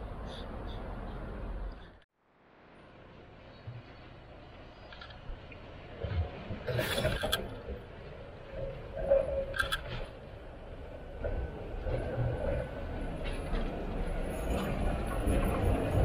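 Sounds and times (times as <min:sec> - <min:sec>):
electric tram rumbling: 0:00.0 - 0:16.0.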